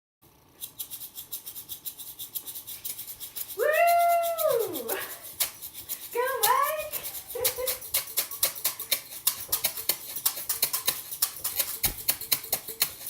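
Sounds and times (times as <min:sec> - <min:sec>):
shaker samba rhythm: 0:00.7 - 0:13.0.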